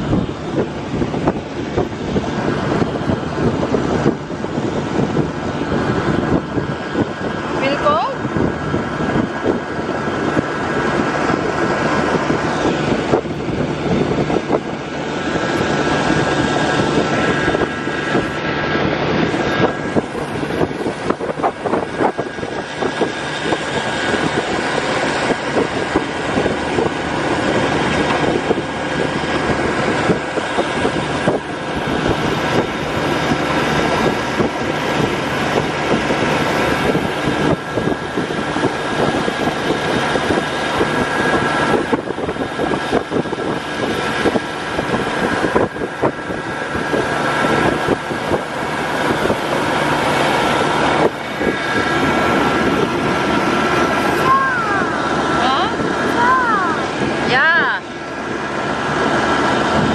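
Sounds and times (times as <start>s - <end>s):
motor engine droning: 0.0s - 59.9s.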